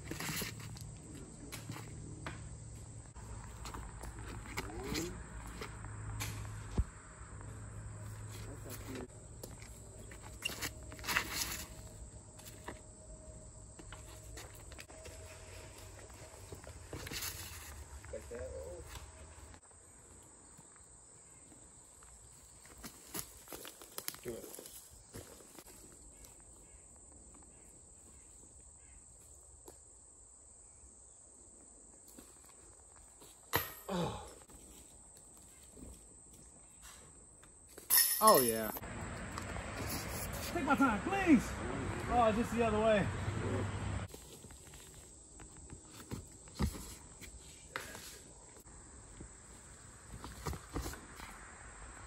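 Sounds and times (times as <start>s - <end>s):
faint outdoor background noise: 0.0s - 52.0s.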